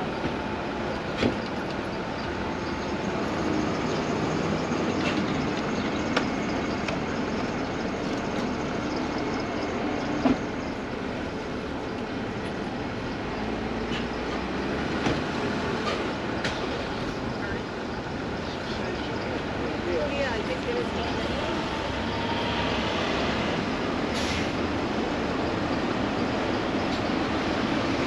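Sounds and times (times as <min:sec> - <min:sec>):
vehicles rumbling: 0:00.0 - 0:28.0.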